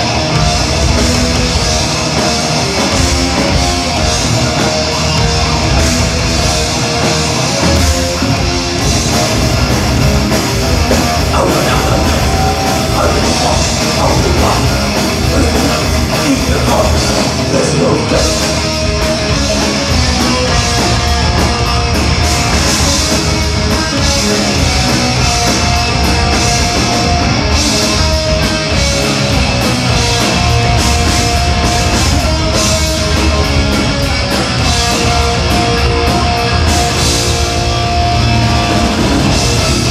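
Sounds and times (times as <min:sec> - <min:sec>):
metal band playing live: 0:00.0 - 0:39.9.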